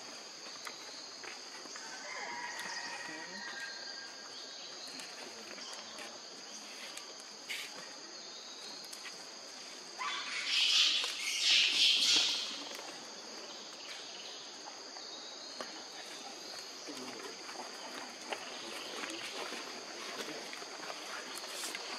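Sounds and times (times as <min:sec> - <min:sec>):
insects droning: 0:00.0 - 0:21.9.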